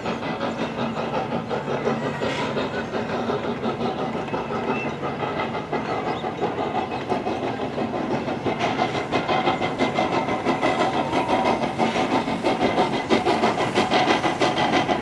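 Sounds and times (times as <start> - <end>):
steam locomotive chuffing: 0.0 - 15.0
train coaches rolling on rails: 0.0 - 15.0.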